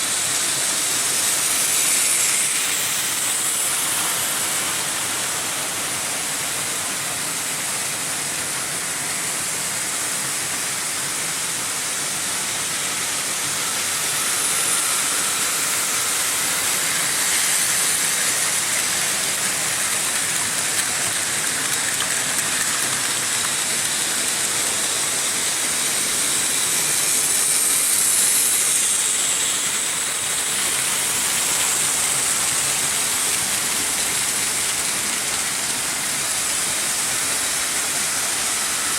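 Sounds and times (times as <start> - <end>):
model trains rolling rattle: 0.0 - 38.9.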